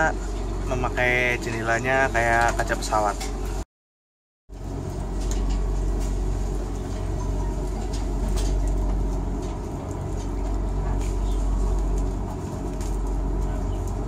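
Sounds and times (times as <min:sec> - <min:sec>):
train hum and rumble: 0:00.0 - 0:03.6, 0:04.5 - 0:14.0.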